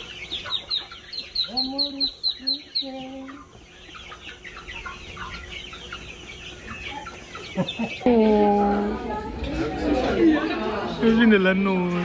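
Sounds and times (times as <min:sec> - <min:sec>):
chickens clucking and peeping: 0:00.0 - 0:12.0.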